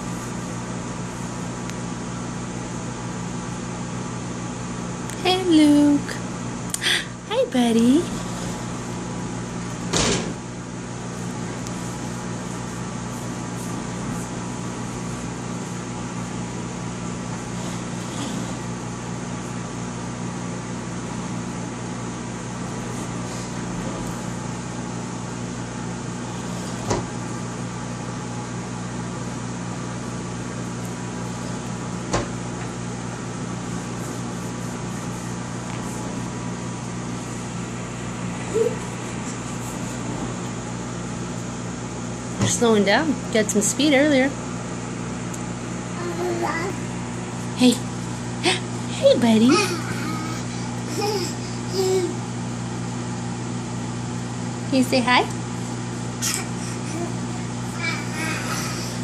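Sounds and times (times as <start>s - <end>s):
appliance electrical hum: 0.0s - 59.0s.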